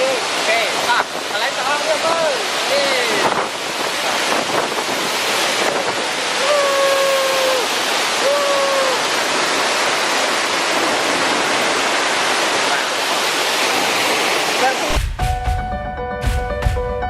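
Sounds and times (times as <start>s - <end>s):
waterfall rushing: 0.0s - 15.2s.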